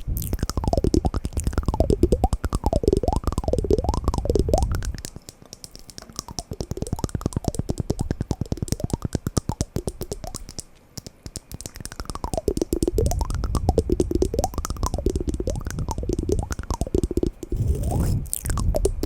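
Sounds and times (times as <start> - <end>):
rapid wooden block knocking: 0.4 - 19.0.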